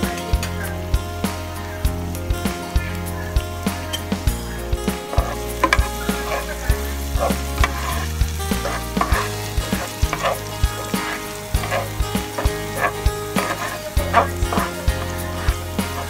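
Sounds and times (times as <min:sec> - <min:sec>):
background music with beat: 0:00.0 - 0:16.0
garlic sizzling in hot oil: 0:00.0 - 0:16.0
spatula stirring in pan: 0:02.7 - 0:16.0.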